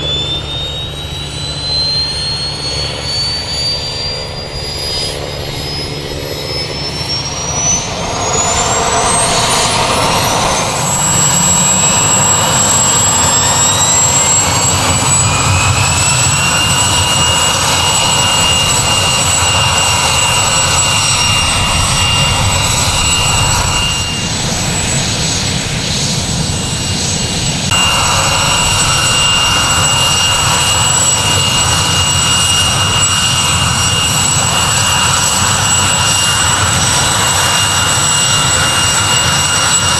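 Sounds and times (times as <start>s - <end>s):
helicopter turbine engines whining: 0.0s - 39.9s.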